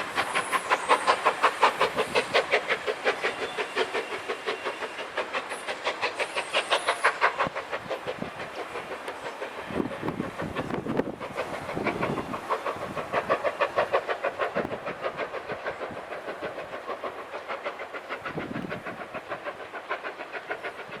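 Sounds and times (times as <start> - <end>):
steam locomotive exhaust beats: 0.0 - 21.0.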